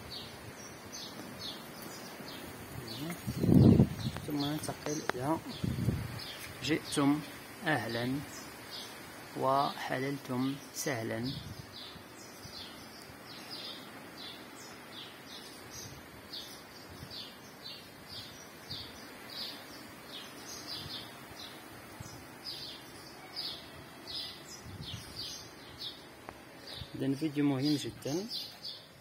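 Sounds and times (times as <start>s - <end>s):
faint background noise: 0.0s - 29.0s
small birds chirping: 0.0s - 29.0s.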